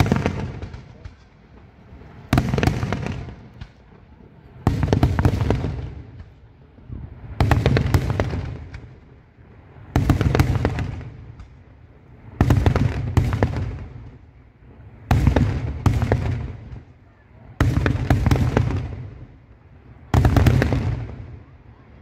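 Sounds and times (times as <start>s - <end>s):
fireworks bursting with loud bangs: 0.0s - 22.0s.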